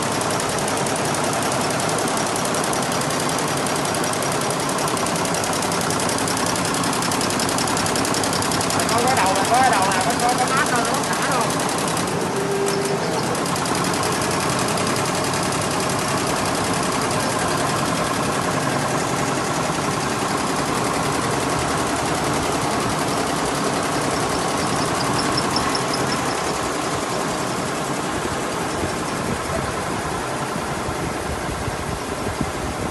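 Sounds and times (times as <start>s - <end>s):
factory machinery rattling: 0.0s - 30.9s.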